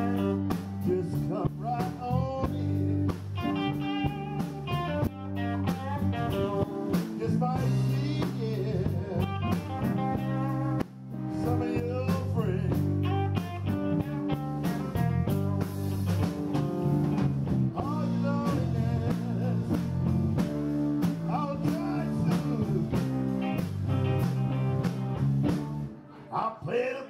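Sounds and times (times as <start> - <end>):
drums: 0.0 - 26.0
electric guitars: 0.0 - 26.3.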